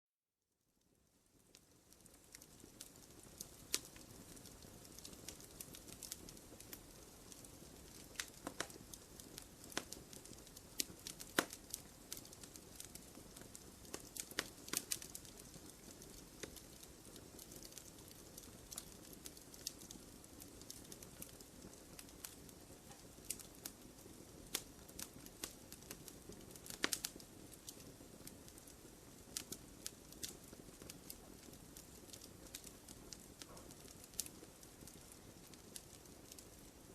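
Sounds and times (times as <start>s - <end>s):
wood fire crackling and popping: 1.1s - 36.9s.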